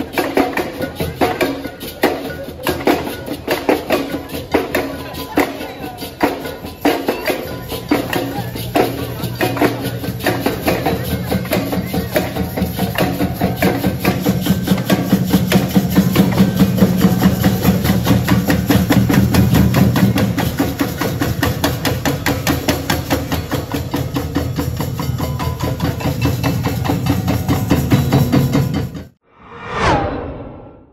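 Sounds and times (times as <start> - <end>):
drum and hand-percussion strokes: 0.0 - 29.2.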